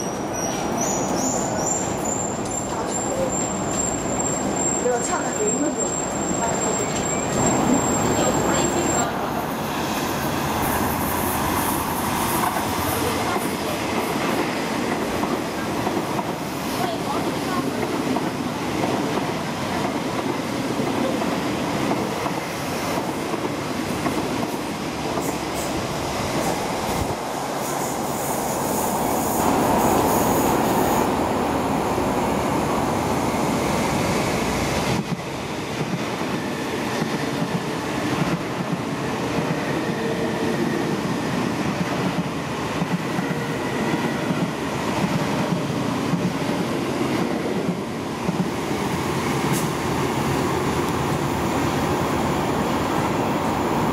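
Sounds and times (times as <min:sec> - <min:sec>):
electric trains running on tracks: 0:00.0 - 0:53.9
loud rail noise: 0:00.0 - 0:53.9.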